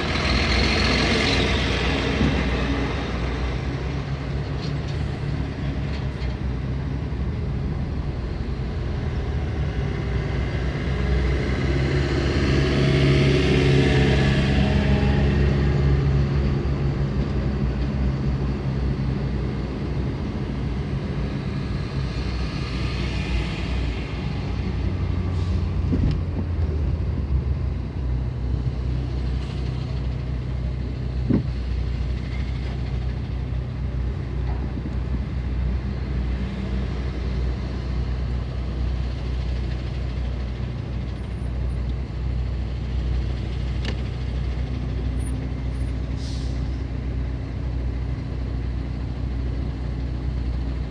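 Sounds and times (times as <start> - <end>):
traffic engines rumbling: 0.0 - 50.9.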